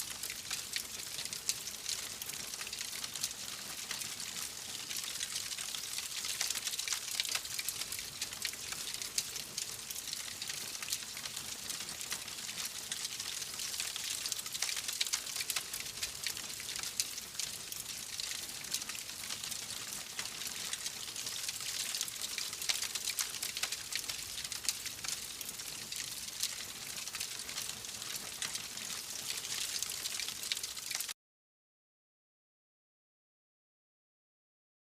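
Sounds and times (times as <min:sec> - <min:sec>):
fireplace fire crackling: 0:00.0 - 0:31.2.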